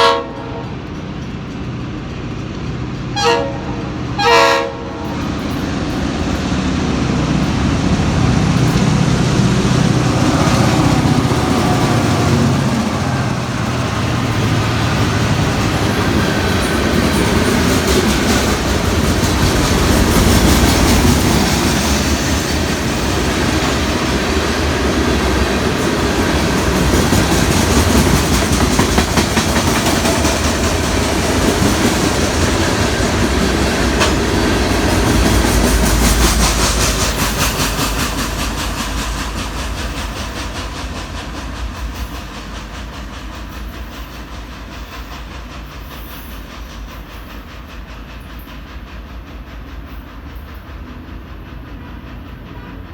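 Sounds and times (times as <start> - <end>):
freight train wheels clattering: 0.0 - 52.9.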